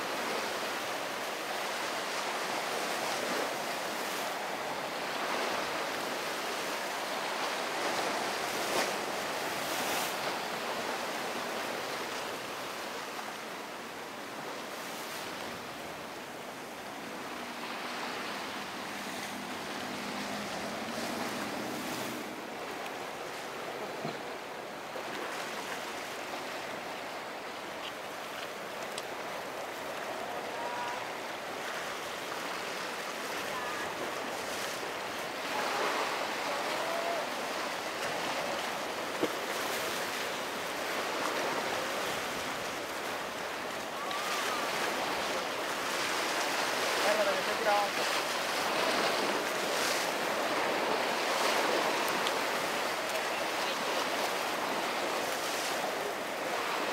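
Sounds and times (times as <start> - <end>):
breaking waves: 0.0 - 56.9
faint boat engine: 0.1 - 56.9.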